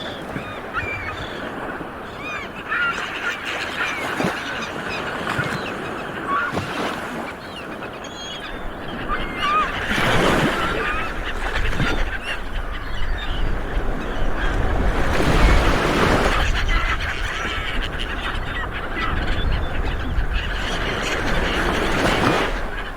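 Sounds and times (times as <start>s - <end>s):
birds calling: 0.0s - 22.9s
sea waves washing ashore: 0.0s - 22.9s.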